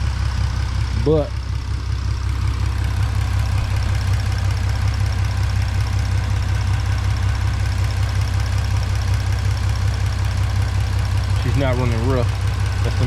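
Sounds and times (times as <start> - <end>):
car engine idling: 0.0 - 13.0
light engine ticking: 0.0 - 13.0.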